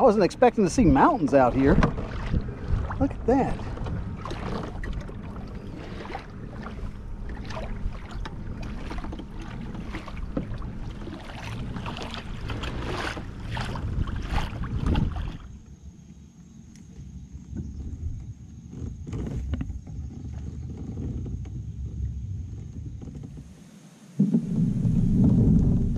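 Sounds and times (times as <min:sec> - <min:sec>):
wind buffeting microphone: 0:00.0 - 0:15.8, 0:16.6 - 0:25.9
water slapping against kayak hull: 0:00.0 - 0:16.3, 0:16.9 - 0:25.9
water lapping: 0:00.0 - 0:25.9.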